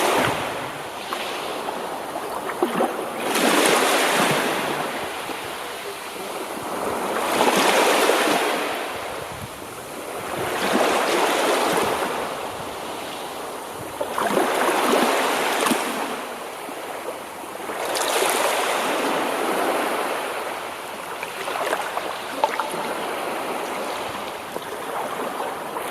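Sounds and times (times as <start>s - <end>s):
waves breaking on shore: 0.0s - 25.9s.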